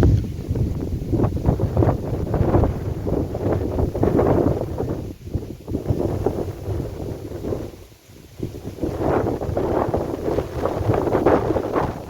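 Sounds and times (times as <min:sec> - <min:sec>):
storm wind buffeting microphone: 0:00.0 - 0:12.0.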